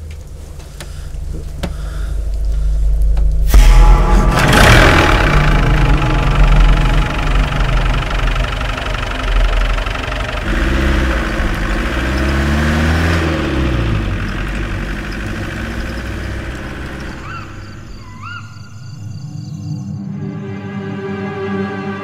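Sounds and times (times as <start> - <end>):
vehicle engine running: 0.0 - 18.1.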